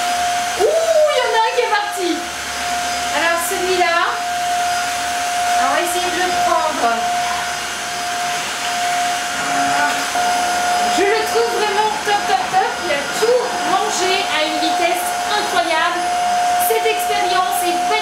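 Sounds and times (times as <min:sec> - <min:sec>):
vacuum mop motor whine and suction: 0:00.0 - 0:18.0.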